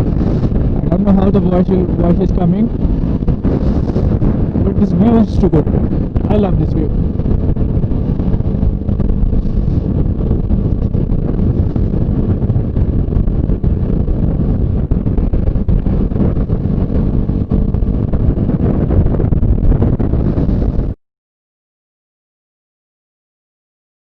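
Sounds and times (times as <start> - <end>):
motorcycle engine hum: 0.0 - 21.0
wind rushing on microphone: 0.0 - 21.0.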